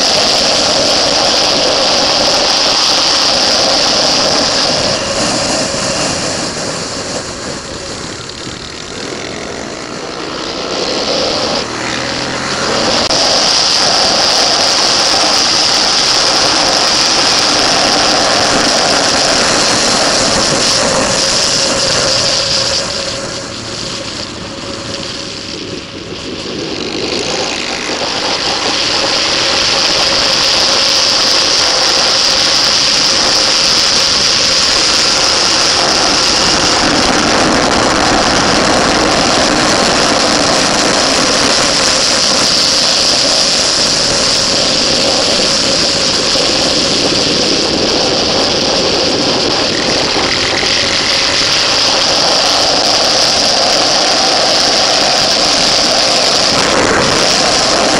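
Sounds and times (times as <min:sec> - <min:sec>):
motorcycle engine running hard: 0:00.0 - 0:57.9
wind rush: 0:00.0 - 0:57.9.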